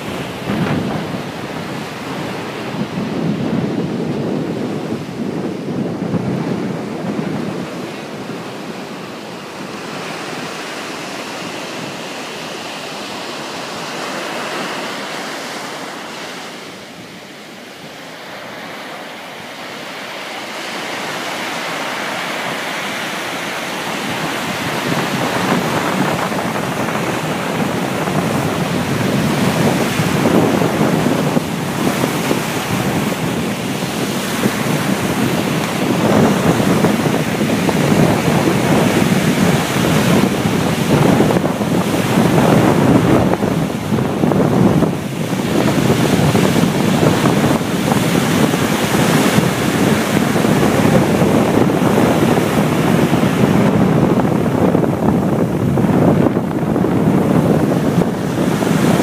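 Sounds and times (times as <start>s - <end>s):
surf breaking on beach: 0.0s - 59.0s
wind buffeting microphone: 0.0s - 59.0s.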